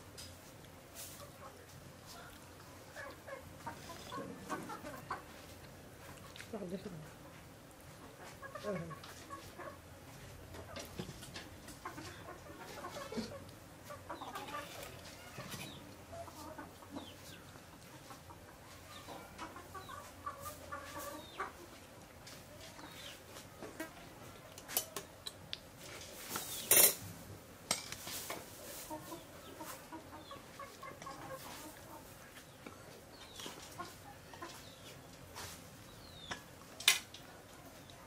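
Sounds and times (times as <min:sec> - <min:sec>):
chickens clucking: 0:00.1 - 0:26.9, 0:28.0 - 0:38.0.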